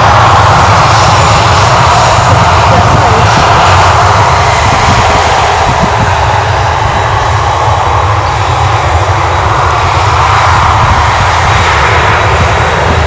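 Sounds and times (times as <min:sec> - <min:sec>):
jet engines of taxiing airliners: 0:00.0 - 0:13.0.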